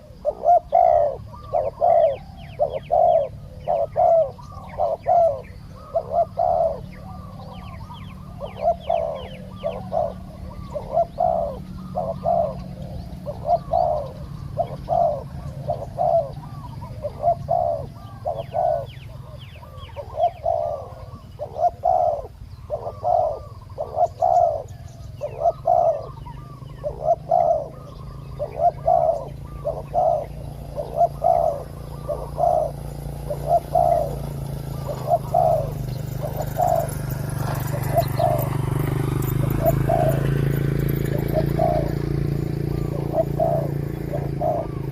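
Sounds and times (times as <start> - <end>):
doves cooing: 0.0 - 44.9
small bird chirping: 0.0 - 44.9.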